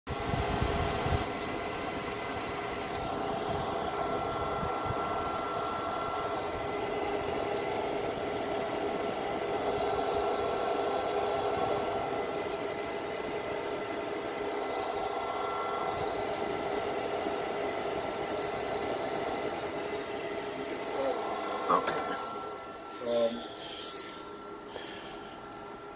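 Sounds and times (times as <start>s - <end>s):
cooling fans whirring: 0.1s - 25.9s.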